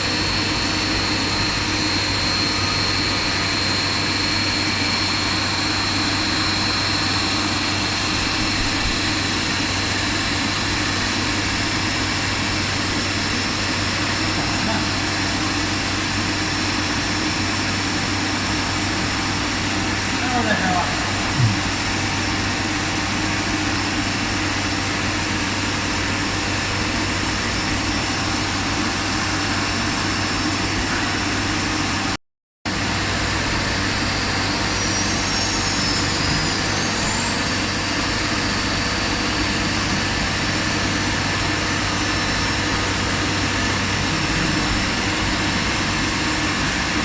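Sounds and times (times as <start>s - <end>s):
faint high rising whines: 0.0s - 32.1s, 32.8s - 47.0s
cnc router running: 0.0s - 47.0s.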